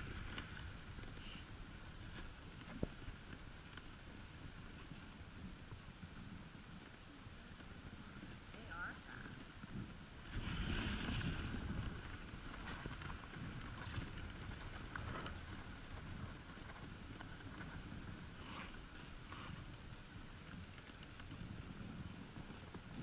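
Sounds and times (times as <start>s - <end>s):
sled runners sliding over snow: 0.0s - 23.0s
wind on microphone: 0.0s - 23.0s.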